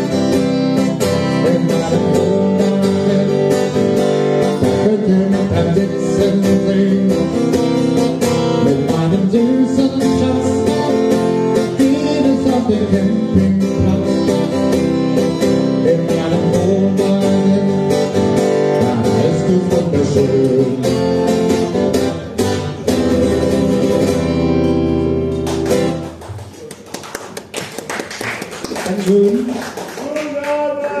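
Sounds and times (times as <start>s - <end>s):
acoustic guitar strumming: 0.0s - 26.2s.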